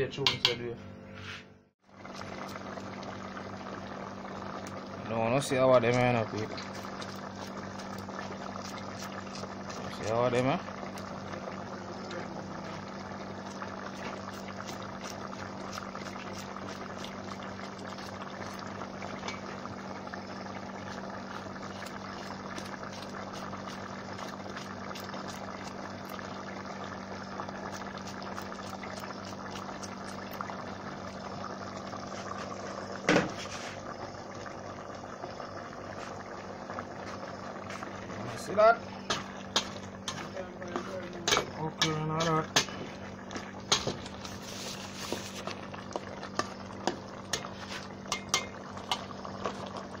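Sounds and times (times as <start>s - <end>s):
stew bubbling in metal pot: 1.8s - 50.0s.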